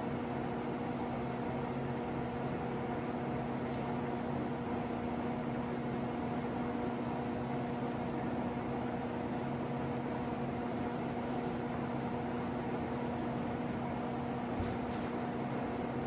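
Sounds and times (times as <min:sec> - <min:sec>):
ventilation fan humming: 0:00.0 - 0:16.0.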